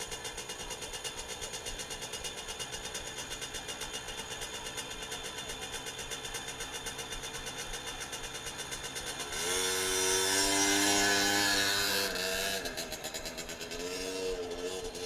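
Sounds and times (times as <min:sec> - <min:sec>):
dirt-bike engine idling and revving: 0:00.0 - 0:15.0.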